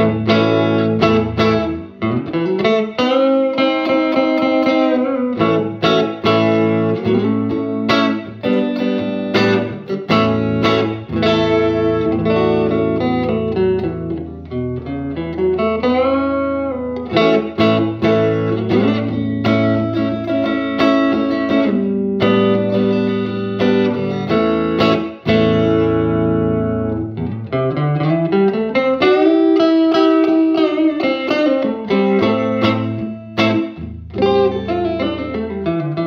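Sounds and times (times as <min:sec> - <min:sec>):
overdriven electric guitar: 0:00.0 - 0:36.0.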